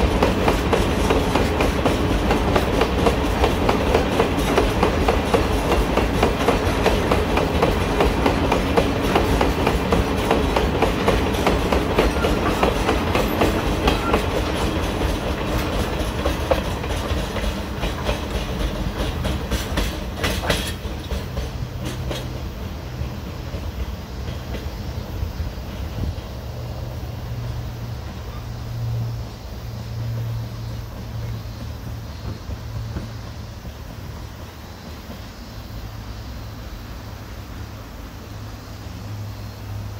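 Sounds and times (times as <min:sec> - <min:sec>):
train wheels clacking over joints: 0:00.0 - 0:36.0.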